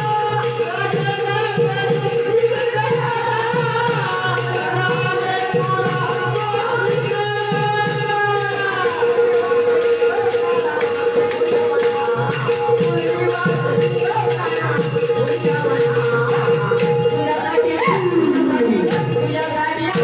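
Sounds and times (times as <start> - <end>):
jingling hand percussion: 0.0 - 20.0
person singing folk song: 0.0 - 20.0.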